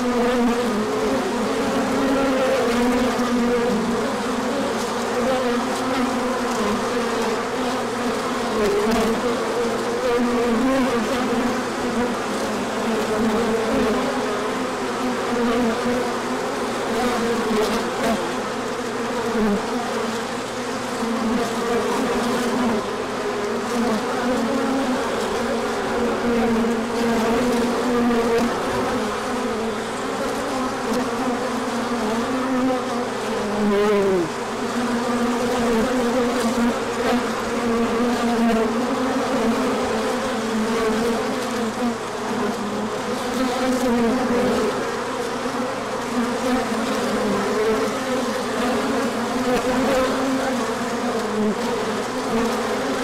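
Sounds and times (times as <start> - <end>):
bee flying past: 0.0 - 53.0
bees buzzing: 0.0 - 53.0.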